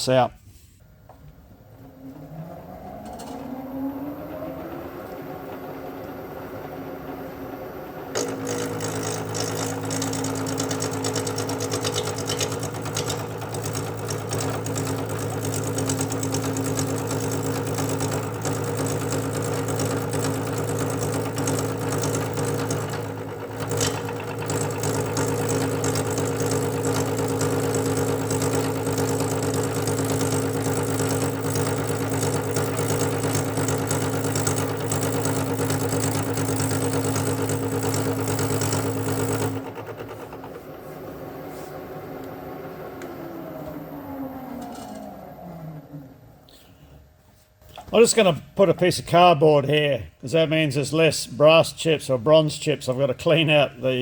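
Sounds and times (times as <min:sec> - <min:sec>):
machine tool motor hum: 0:01.7 - 0:46.5.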